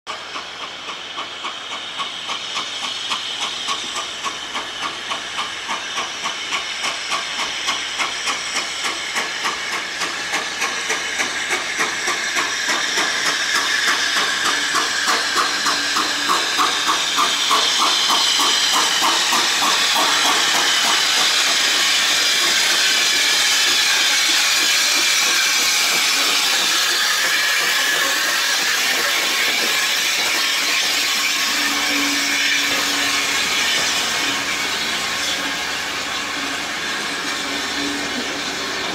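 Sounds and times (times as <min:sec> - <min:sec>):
steam hissing: 0:00.1 - 0:38.9
steam locomotive chuffing: 0:00.1 - 0:38.9.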